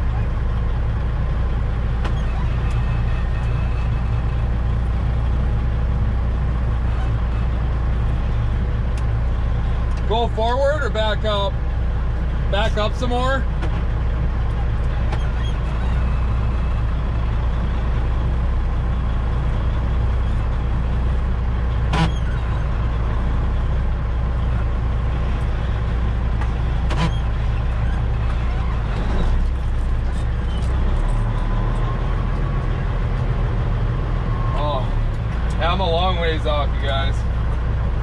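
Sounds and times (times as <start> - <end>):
diesel truck engine running: 0.0 - 38.0.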